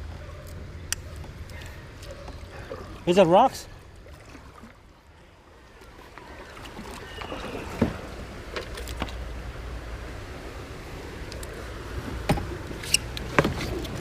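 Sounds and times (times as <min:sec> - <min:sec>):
water splashing around kayak: 0:01.2 - 0:14.0.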